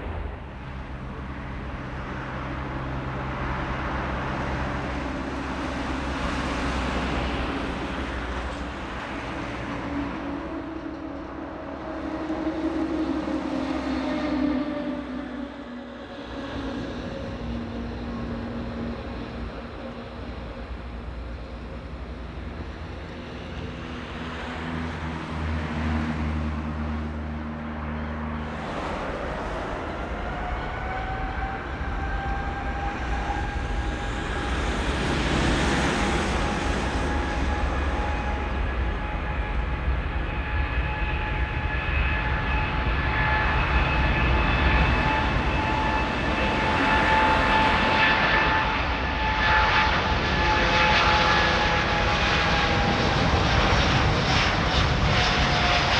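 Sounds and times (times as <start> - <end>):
jet engine rumble: 0.0 - 11.4, 15.8 - 55.9
jet engine whine: 0.0 - 55.9.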